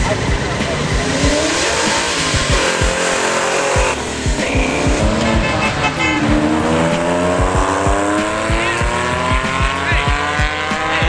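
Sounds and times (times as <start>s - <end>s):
car engines accelerating past: 0.0s - 11.0s
music with steady beat: 0.0s - 11.0s.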